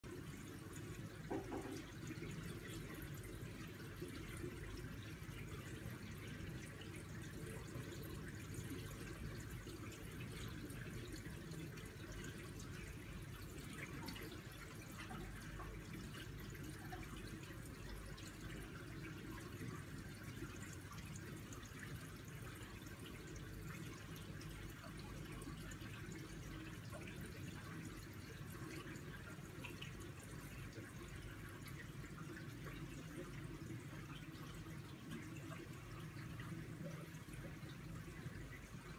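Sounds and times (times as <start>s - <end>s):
filter water running: 0.1s - 38.9s.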